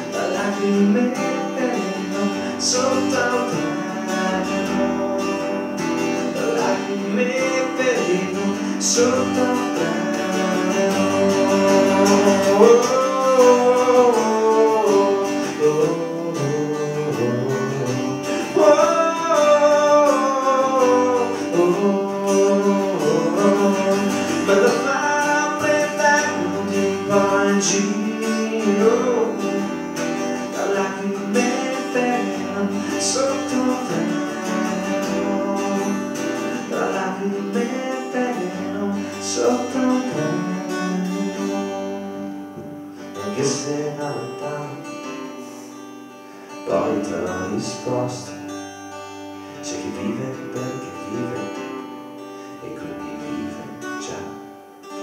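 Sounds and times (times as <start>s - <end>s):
man singing: 0.0s - 45.8s, 46.5s - 48.6s, 49.5s - 55.0s
acoustic guitar strumming: 0.0s - 55.0s.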